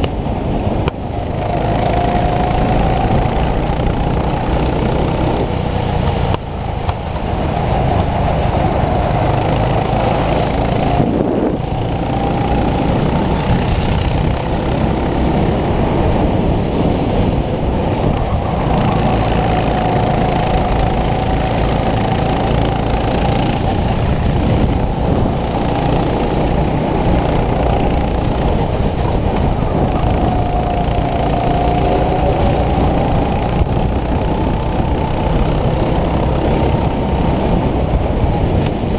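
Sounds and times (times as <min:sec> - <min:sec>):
go-kart engine running hard: 0:00.0 - 0:38.9.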